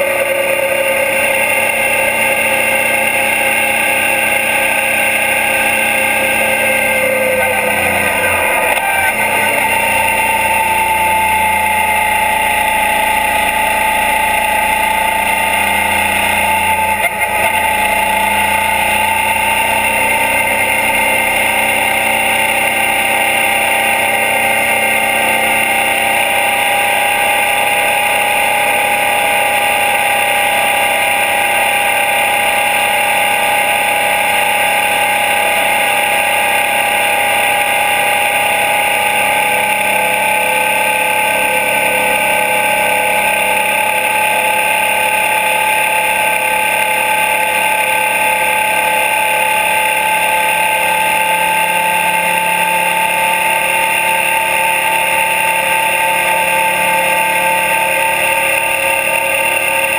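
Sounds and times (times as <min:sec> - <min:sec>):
road noise: 0:00.0 - 0:51.8
motorcycle engine cruising: 0:00.0 - 0:59.9.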